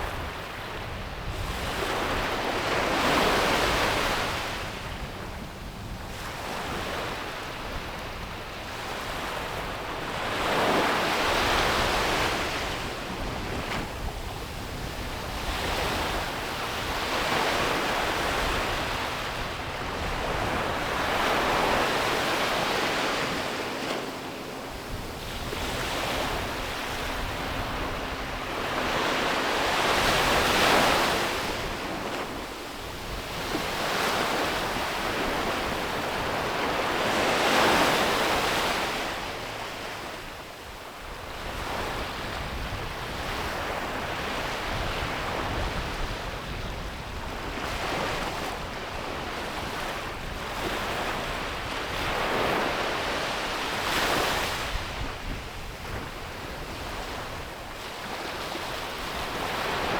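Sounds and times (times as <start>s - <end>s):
ocean waves breaking on beach: 0.0s - 59.9s
wind buffeting microphone: 0.0s - 59.9s.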